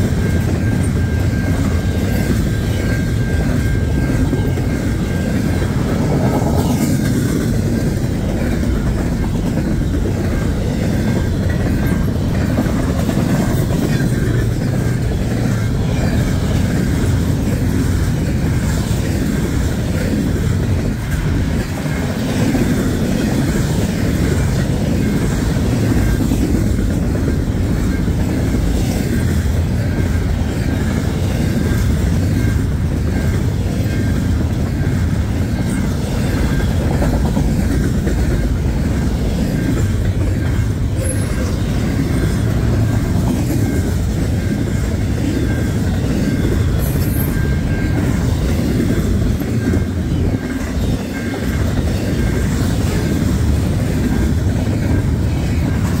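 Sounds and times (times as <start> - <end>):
steel wheels rumbling on rails: 0.0 - 56.0
train cars clanking: 0.0 - 56.0.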